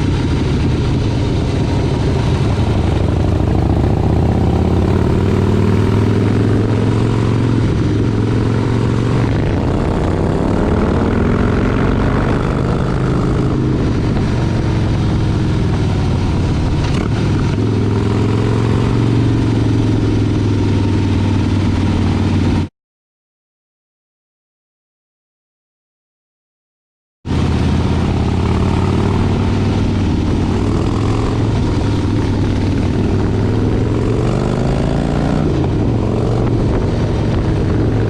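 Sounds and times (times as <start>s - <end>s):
motorcycle engine rumbling: 0.0s - 22.7s, 27.3s - 38.0s.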